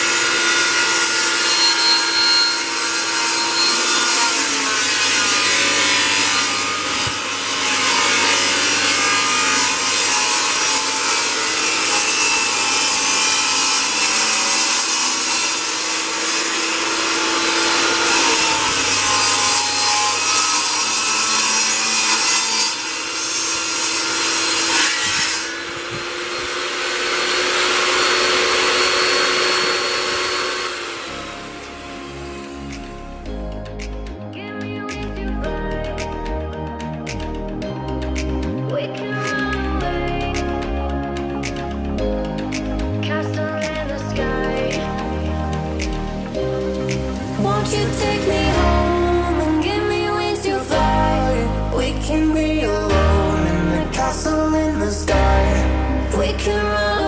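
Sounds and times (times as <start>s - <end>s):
table saw cutting plywood: 0.0s - 34.2s, 37.1s - 57.0s.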